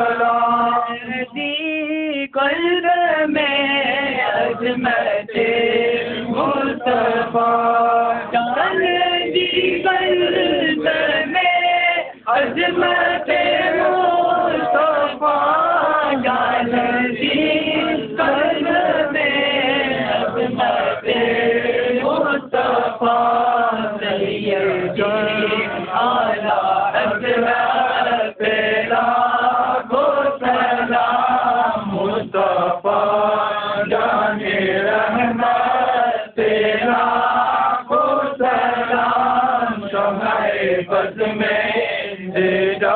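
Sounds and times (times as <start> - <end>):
men chanting a hymn: 0.0 - 42.9.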